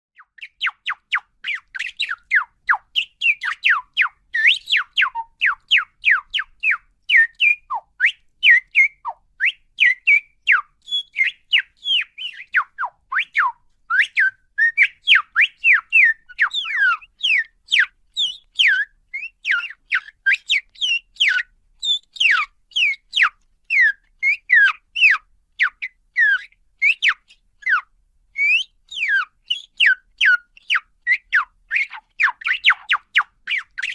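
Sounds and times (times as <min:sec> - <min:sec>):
parakeet chirping: 0:00.2 - 0:33.9.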